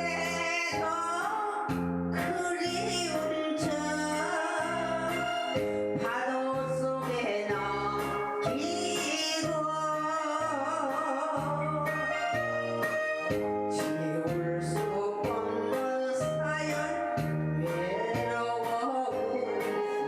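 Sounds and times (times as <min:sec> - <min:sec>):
instrumental accompaniment with bass: 0:00.0 - 0:20.0
woman singing with vibrato: 0:00.0 - 0:20.0.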